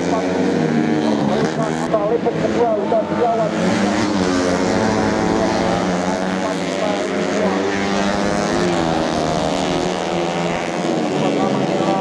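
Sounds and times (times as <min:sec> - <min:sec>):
motorcycles revving high: 0:00.0 - 0:12.0.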